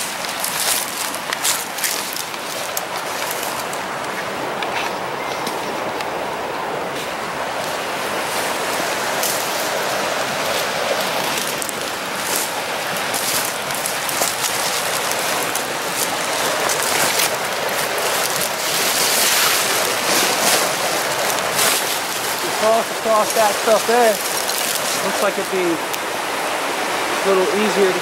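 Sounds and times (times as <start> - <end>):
dry leaves crackling underfoot: 0.0 - 5.8, 7.0 - 28.0
flowing creek rushing: 0.0 - 28.0.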